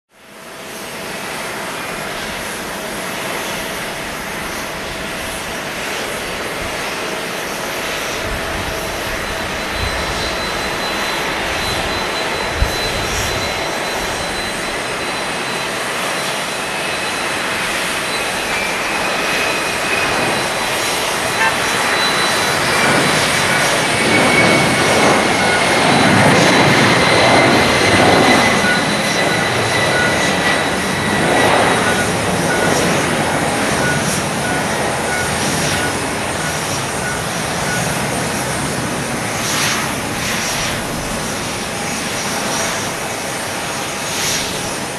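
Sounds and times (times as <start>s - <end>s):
jet engine roar: 0.1s - 44.9s.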